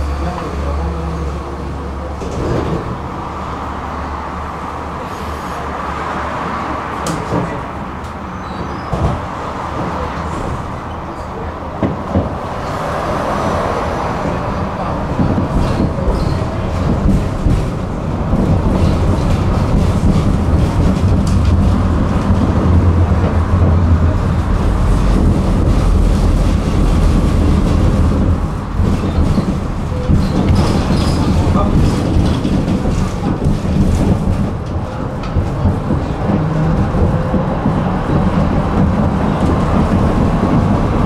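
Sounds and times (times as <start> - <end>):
tram wheels rumbling on rail: 0.0 - 41.0.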